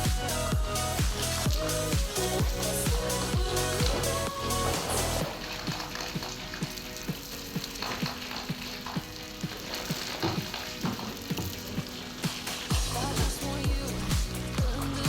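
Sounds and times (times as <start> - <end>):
hissing crackly noise: 0.0 - 15.0
music with low thumping beat: 0.0 - 15.0.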